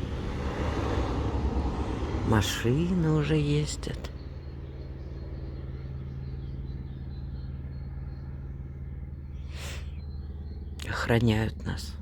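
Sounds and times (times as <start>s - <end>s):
distant helicopter flying: 0.0s - 12.0s.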